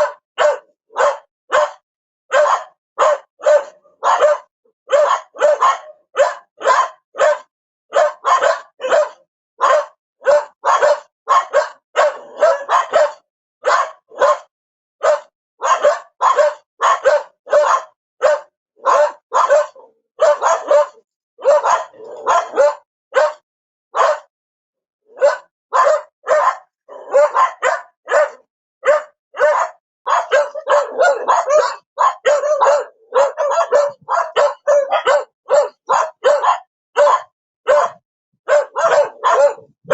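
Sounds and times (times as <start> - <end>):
dog barking: 0.0 - 24.3, 25.1 - 39.9.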